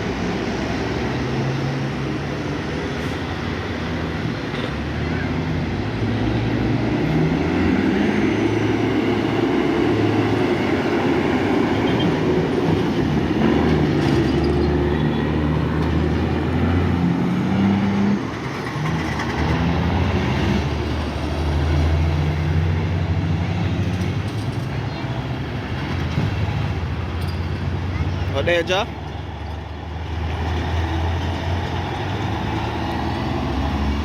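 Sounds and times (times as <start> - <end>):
diesel truck engine under load: 0.0 - 34.0.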